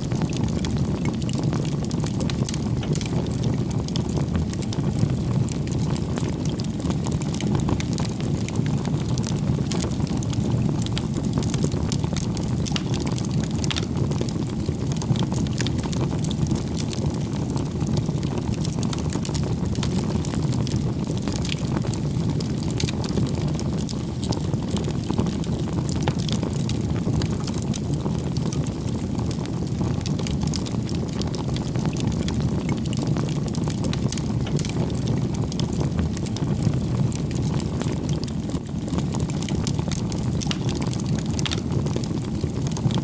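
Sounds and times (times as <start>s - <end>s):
fire low rumble: 0.0s - 43.0s
wood fire crackling and popping: 0.0s - 43.0s.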